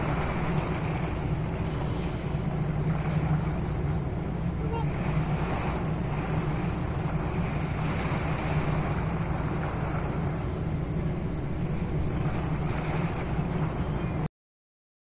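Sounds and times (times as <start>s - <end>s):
wind-driven rain: 0.0s - 14.2s
low rumble: 0.0s - 14.3s.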